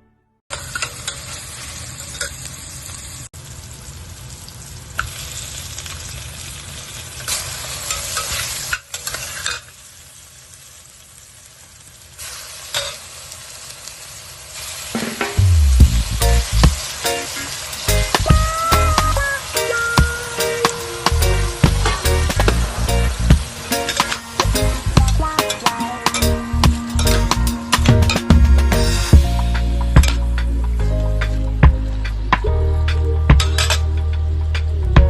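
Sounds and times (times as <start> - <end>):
food sizzling in a pan: 0.5 - 29.6.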